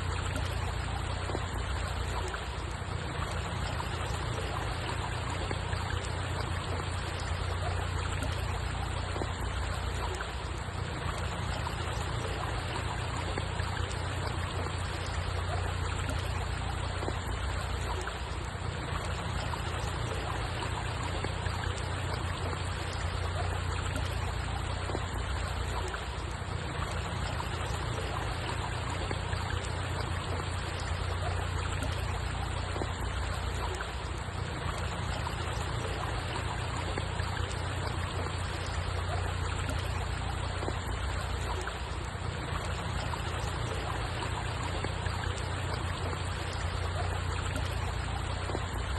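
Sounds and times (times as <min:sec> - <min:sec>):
water trickling: 0:00.0 - 0:48.9.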